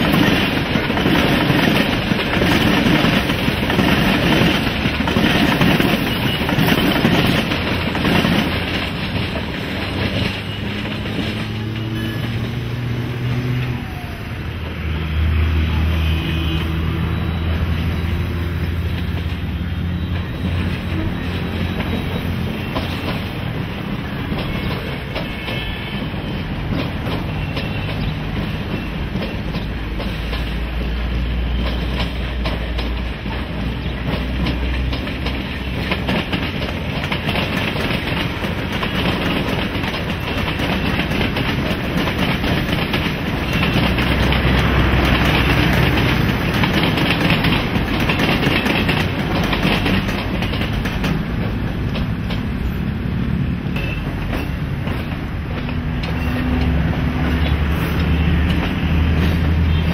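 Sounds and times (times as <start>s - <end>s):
wheels clacking over rail joints: 0.0s - 15.8s, 16.8s - 59.9s
electric trains rumbling past: 0.0s - 59.9s.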